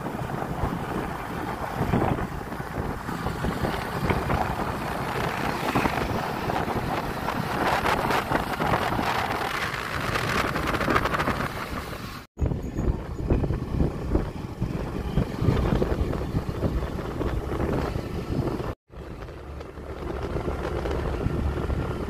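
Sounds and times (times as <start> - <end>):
motorcycle engine running: 0.0 - 22.0
road noise: 0.0 - 22.0
wind buffeting microphone: 0.0 - 22.0.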